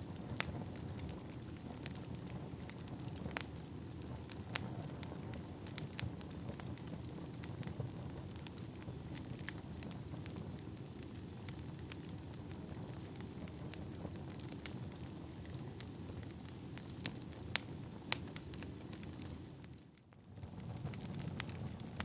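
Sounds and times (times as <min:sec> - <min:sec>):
fire flames rumbling: 0:00.0 - 0:22.0
firewood crackles and pops: 0:00.0 - 0:22.0.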